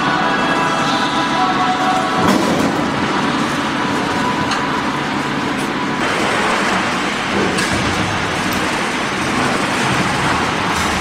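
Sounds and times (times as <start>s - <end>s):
factory hall rushing hum: 0.0s - 11.0s.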